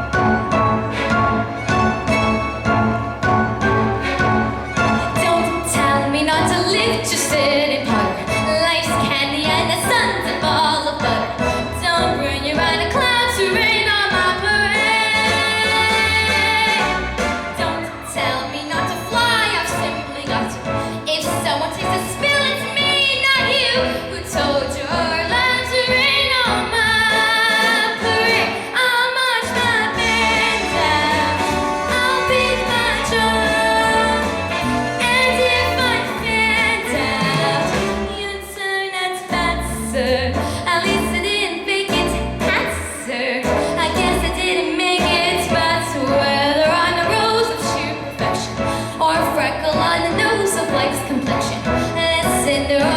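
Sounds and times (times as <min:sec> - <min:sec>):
musical accompaniment: 0:00.0 - 0:52.9
woman singing with vibrato: 0:05.0 - 0:52.9.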